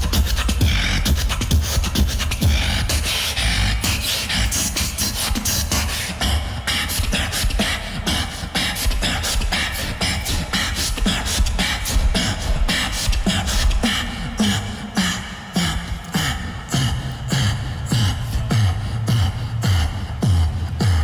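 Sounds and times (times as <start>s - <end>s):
beatbox kick and snare: 0.0s - 21.0s
deep growling beatbox bass: 0.0s - 21.0s.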